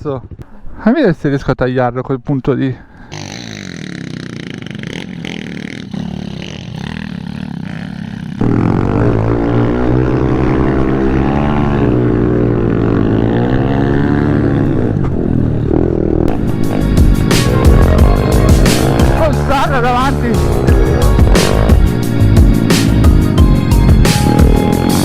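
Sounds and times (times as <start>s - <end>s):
dirt bike engine revving: 3.0s - 25.0s.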